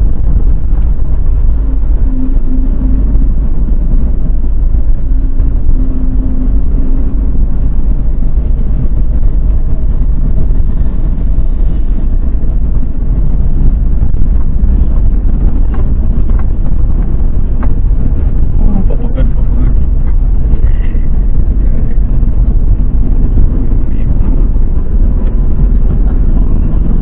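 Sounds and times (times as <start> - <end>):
car interior rumble: 0.0 - 27.0.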